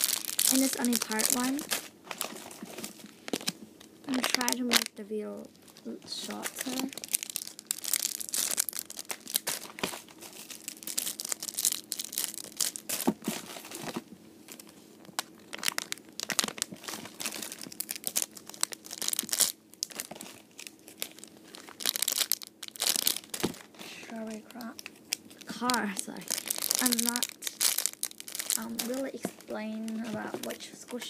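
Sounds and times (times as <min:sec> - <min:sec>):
plastic packaging crinkling: 0:00.0 - 0:31.0.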